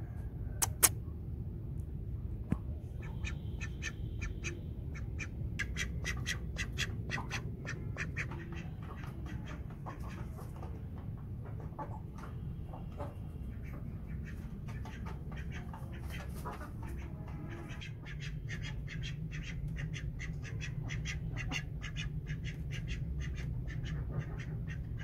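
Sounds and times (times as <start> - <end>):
ducks quacking: 3.0 - 10.8, 11.6 - 25.0.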